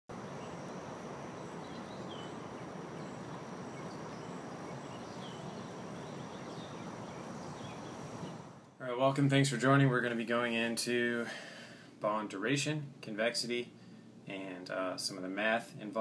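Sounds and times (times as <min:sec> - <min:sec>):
steady background hiss: 0:00.1 - 0:16.0.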